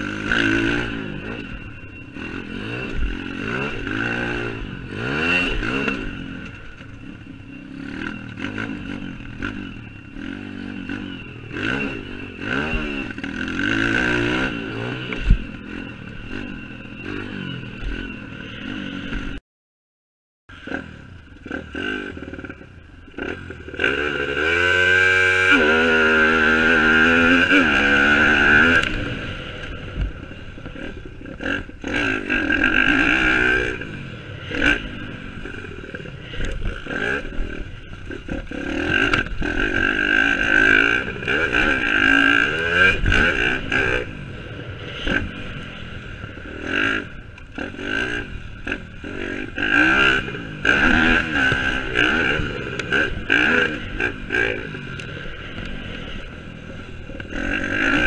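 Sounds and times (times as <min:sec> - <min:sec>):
motorbike engine revving: 0:00.0 - 0:19.4, 0:20.5 - 0:58.0.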